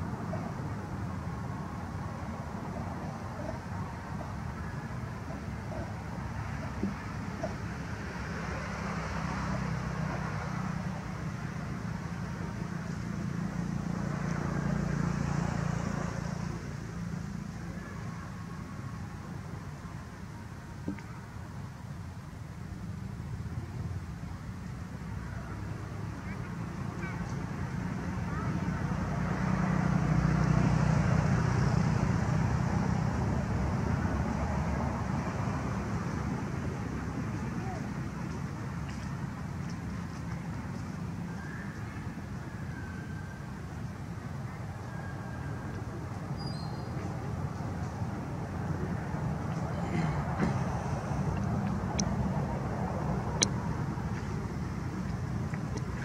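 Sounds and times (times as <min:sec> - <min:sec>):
vehicle engine rumble: 0:00.0 - 0:56.0.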